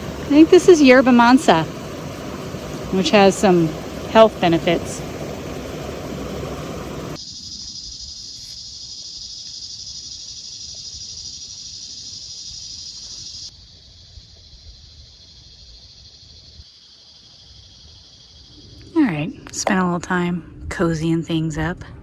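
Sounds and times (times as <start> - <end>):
shrill insect chorus: 0.0 - 19.4.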